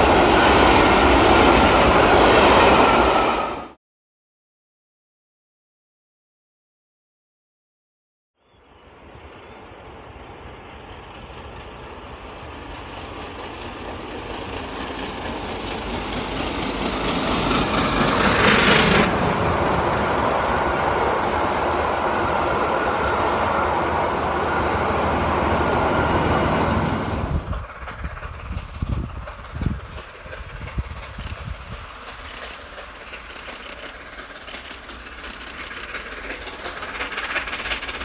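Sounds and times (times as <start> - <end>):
steam locomotive passing: 0.0 - 3.8, 8.6 - 38.0.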